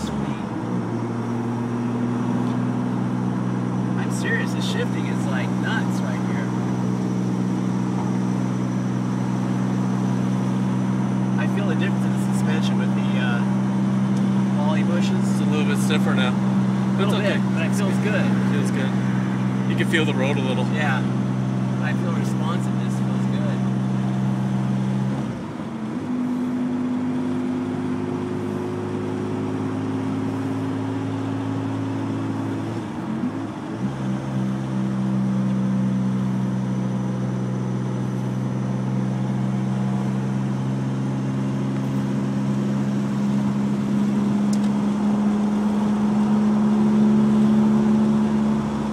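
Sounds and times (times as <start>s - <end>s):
car engine drone: 0.0s - 48.9s.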